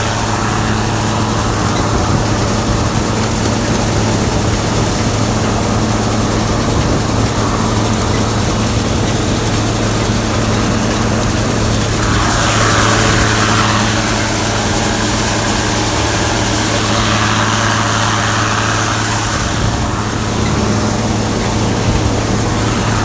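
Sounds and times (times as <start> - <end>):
combine harvester engine hum: 0.0 - 23.0
machinery hiss: 0.0 - 23.0.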